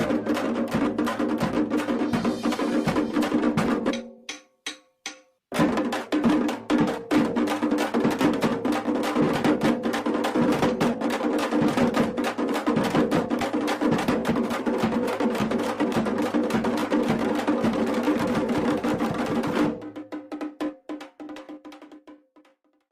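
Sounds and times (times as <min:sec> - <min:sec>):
fast percussive beating: 0:00.0 - 0:22.6.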